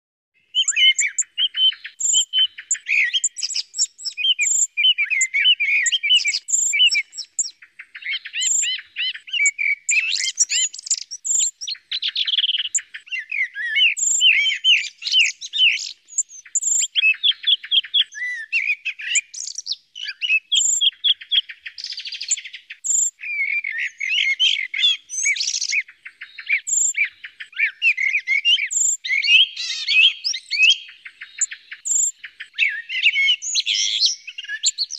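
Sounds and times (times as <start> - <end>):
birds singing: 0.4 - 34.9.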